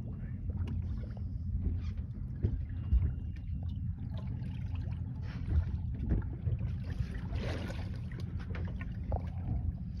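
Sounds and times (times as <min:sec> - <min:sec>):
steady low rumble: 0:00.0 - 0:10.0
water lapping against boat hull: 0:00.0 - 0:10.0.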